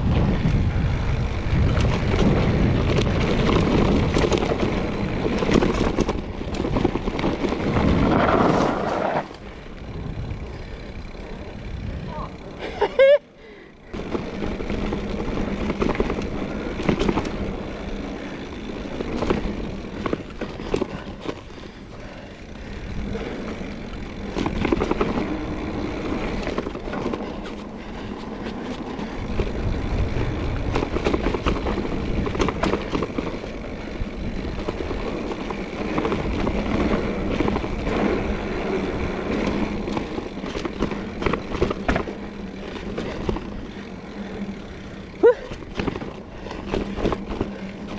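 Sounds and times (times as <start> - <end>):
bike rattling and clicking: 0.0 - 47.9
bike tyres on dirt trail: 0.0 - 47.9.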